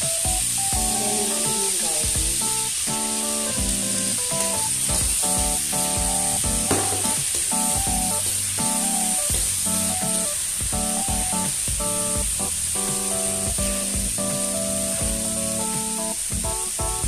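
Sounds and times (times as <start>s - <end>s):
background music: 0.0s - 17.0s
garlic sizzling in a wok: 0.4s - 16.3s.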